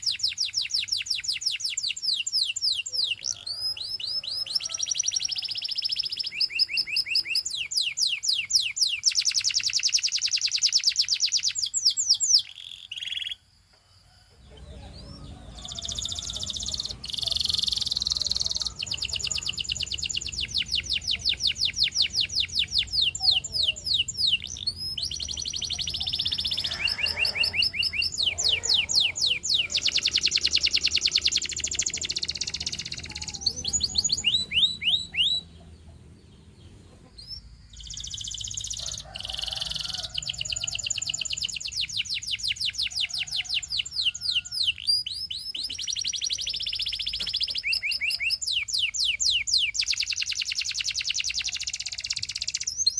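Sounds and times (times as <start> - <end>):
canary singing: 0.0 - 13.5, 14.1 - 52.9.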